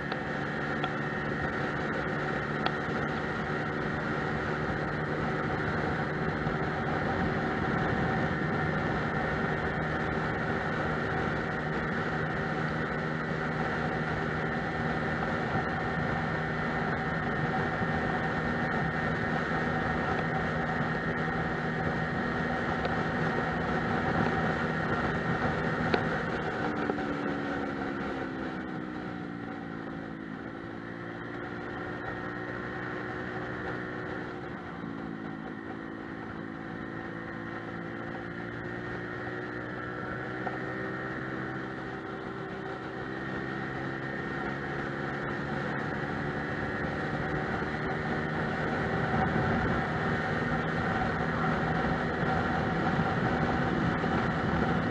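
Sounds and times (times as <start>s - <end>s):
road and wind noise: 0.0s - 54.9s
scooter engine running: 0.0s - 54.9s.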